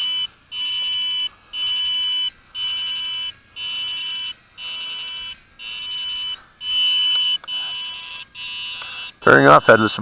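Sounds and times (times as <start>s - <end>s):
long high beeps: 0.0s - 10.0s.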